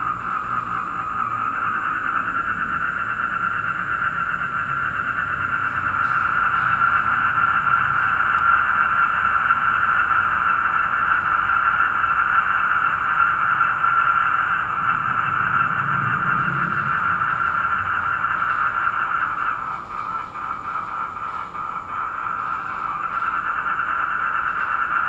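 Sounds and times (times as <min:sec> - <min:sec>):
faint cricket trill: 0:00.0 - 0:25.0
low hum: 0:00.0 - 0:25.0
toads calling in chorus: 0:00.0 - 0:25.0.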